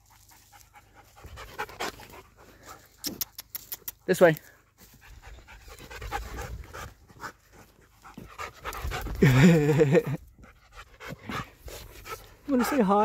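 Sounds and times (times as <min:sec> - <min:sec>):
dog panting hard: 0:00.0 - 0:13.0.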